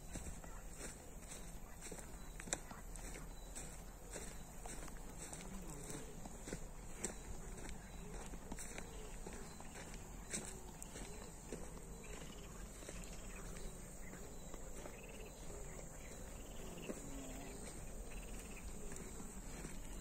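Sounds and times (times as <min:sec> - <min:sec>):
footsteps on grassy dirt path: 0:00.0 - 0:20.0
insects chirring: 0:00.0 - 0:20.0.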